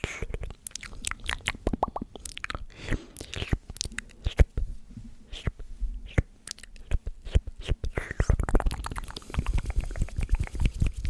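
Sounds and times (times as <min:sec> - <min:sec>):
wet mouth clicks and smacks: 0:00.2 - 0:04.4, 0:06.1 - 0:11.0.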